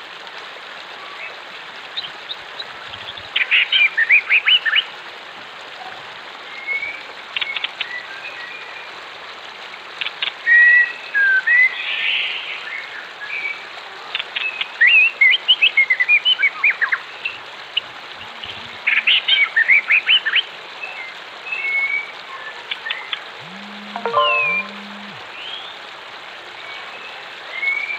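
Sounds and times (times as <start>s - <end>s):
running water: 0.0s - 27.9s.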